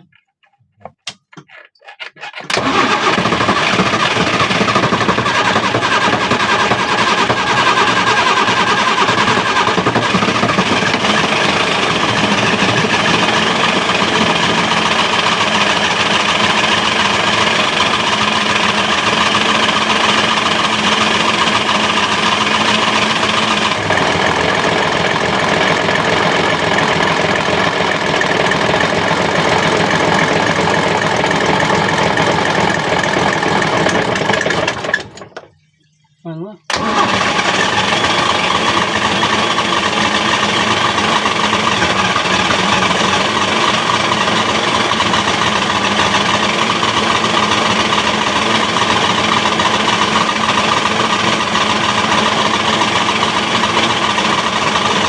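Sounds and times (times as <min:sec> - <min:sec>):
boat engine starting and running: 0:00.0 - 0:55.0.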